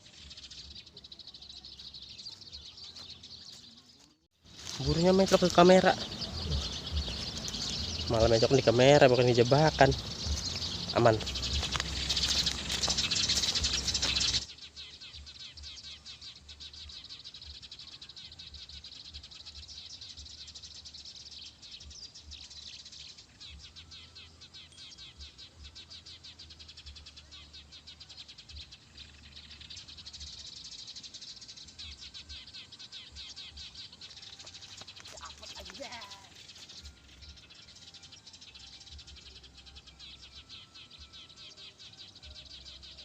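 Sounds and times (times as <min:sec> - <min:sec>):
sparrows chirping: 0:00.0 - 0:43.0.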